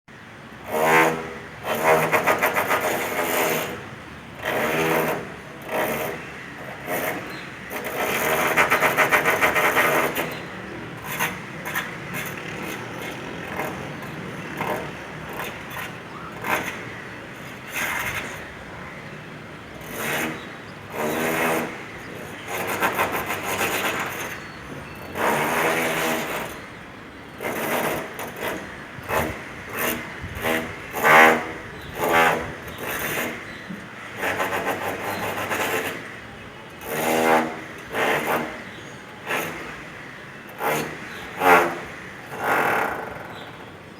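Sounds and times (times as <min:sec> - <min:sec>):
rotary hammer drill rattling: 0:00.6 - 0:43.9.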